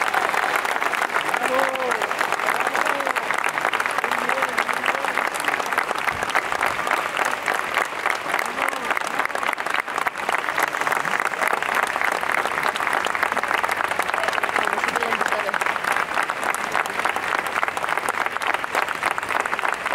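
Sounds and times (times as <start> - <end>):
faint voices: 0.0 - 17.7
crowd applauding: 0.0 - 19.9.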